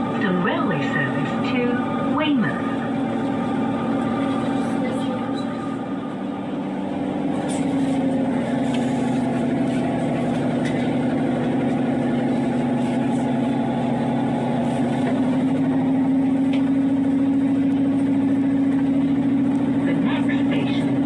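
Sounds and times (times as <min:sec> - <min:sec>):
train engine droning: 0:00.0 - 0:21.0.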